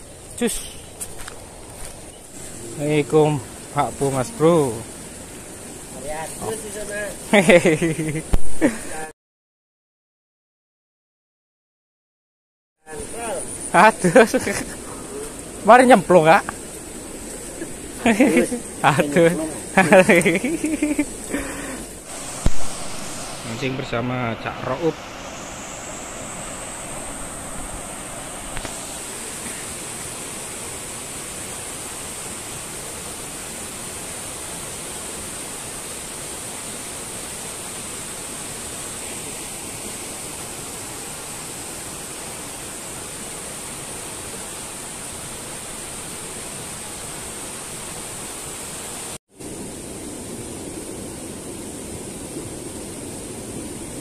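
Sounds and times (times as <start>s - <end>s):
river flowing over stones: 0.0s - 9.1s, 12.9s - 54.0s.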